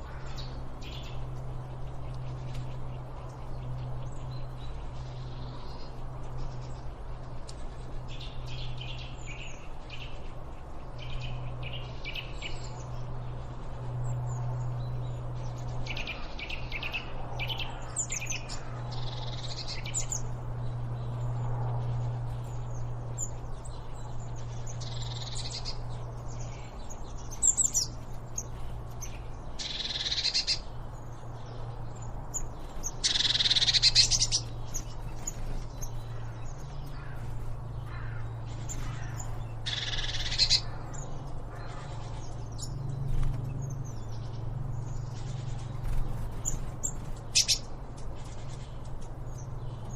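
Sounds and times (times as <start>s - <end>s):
songbirds chirping and trilling: 0.0s - 49.9s
steady low hum: 0.0s - 49.9s.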